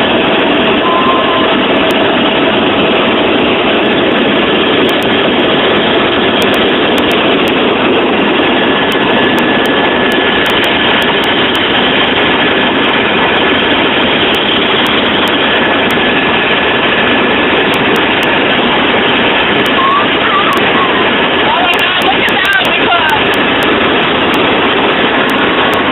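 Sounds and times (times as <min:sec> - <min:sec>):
helicopter engine and rotor noise: 0:00.0 - 0:25.9.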